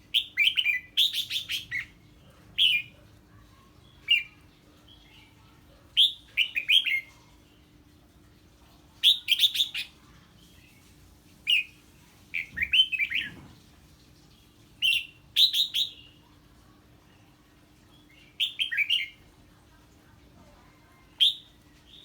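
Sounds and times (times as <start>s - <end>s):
bulbul singing bright phrases: 0.0s - 7.9s, 8.9s - 13.4s, 14.3s - 22.0s
faint steady hum: 0.0s - 22.0s.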